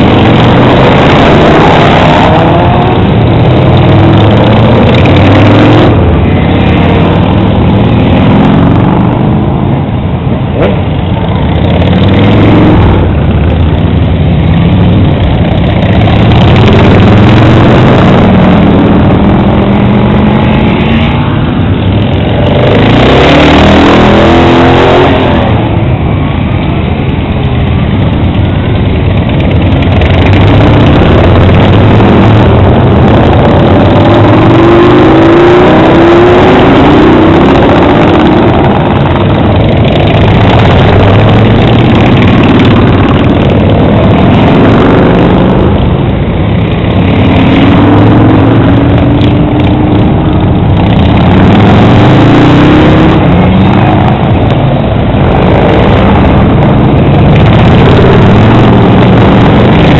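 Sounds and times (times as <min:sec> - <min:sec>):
motorcycles revving past: 0:10.5 - 0:59.9.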